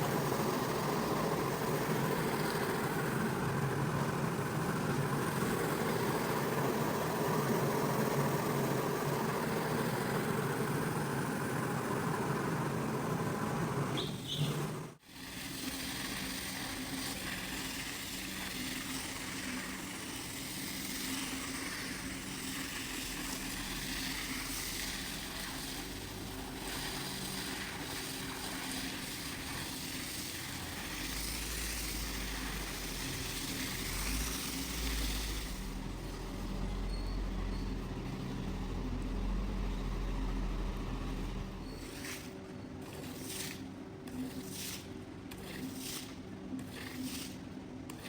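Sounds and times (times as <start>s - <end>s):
carpet cleaning machine running: 0.0s - 42.0s.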